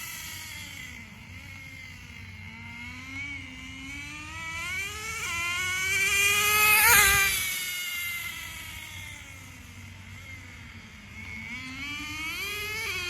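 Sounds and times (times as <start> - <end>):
model car engine high whine: 0.0 - 13.0.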